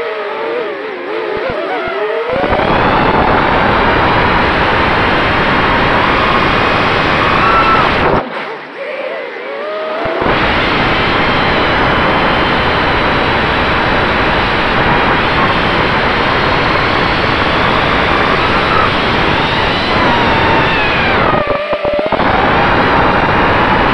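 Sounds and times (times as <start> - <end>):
quadcopter motors whining: 1.4 - 8.2, 10.1 - 23.9
rush of air on microphone: 2.3 - 8.4, 10.0 - 23.9.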